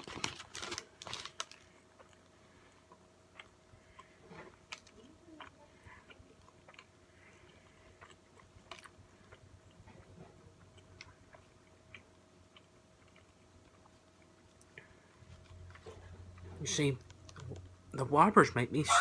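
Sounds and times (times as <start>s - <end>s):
person chewing: 0.0s - 17.7s
faint steady hum: 0.0s - 19.0s.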